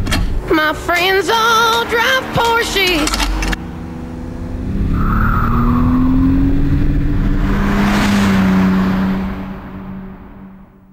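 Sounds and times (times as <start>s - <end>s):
car engine running under load: 0.0s - 10.9s
car passing rush: 0.7s - 10.9s.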